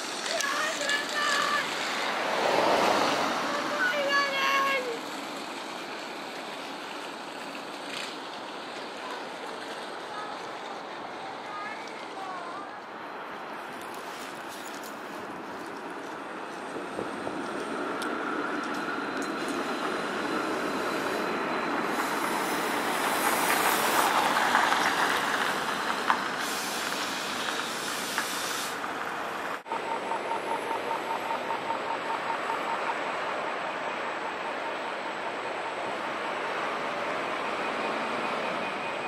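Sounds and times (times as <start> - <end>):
street traffic: 0.0 - 39.0
tram running on track: 0.0 - 39.0.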